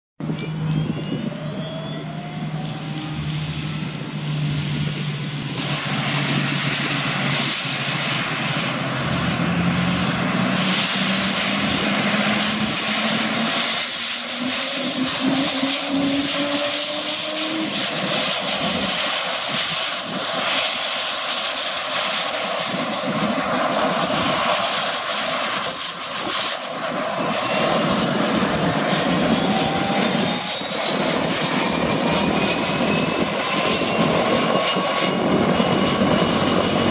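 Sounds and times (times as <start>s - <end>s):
helicopter turbine whine: 0.2s - 36.9s.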